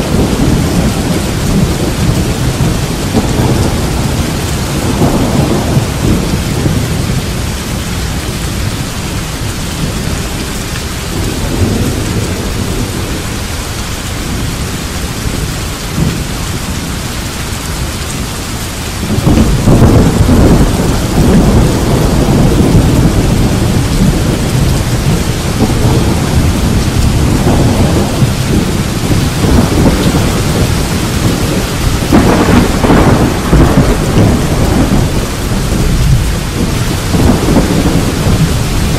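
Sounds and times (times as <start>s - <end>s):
steady rain falling: 0.0s - 38.9s
thunder rumbling: 0.0s - 38.9s.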